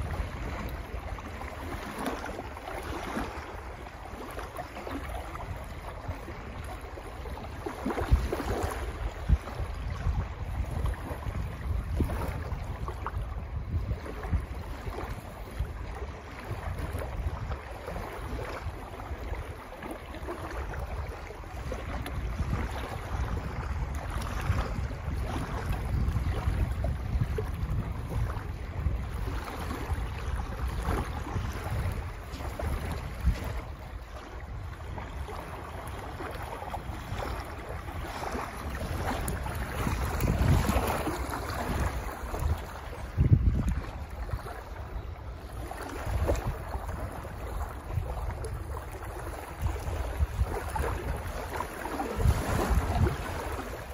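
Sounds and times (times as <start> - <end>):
waves lapping and splashing: 0.0 - 53.9
wind buffeting microphone: 0.0 - 53.9.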